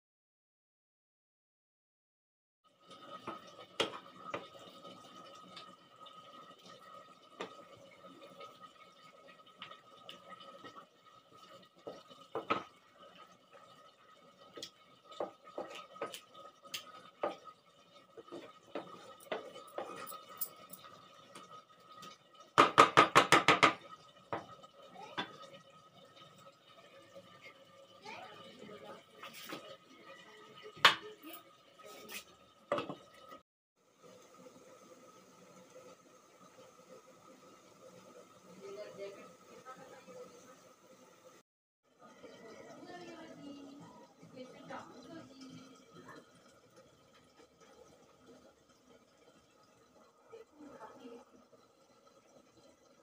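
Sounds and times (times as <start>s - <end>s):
chutney simmering in a pan: 2.7s - 33.0s, 33.8s - 53.0s.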